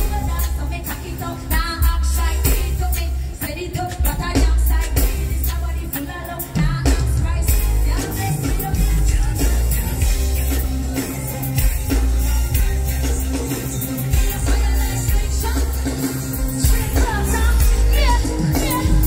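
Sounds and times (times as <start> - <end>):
heavy pulsing bass and drums: 0.0 - 19.0
live band music over pa: 0.0 - 19.0
person singing: 0.0 - 19.0.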